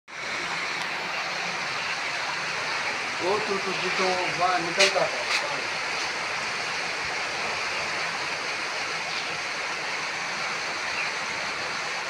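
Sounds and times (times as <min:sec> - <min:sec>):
water rushing over street: 0:00.1 - 0:12.0.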